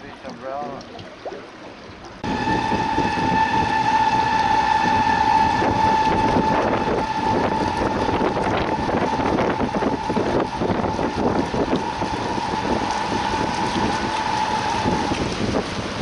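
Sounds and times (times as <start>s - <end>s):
outboard motor whining: 0.0s - 16.0s
rushing water: 0.0s - 16.0s
wind on microphone: 2.2s - 16.0s.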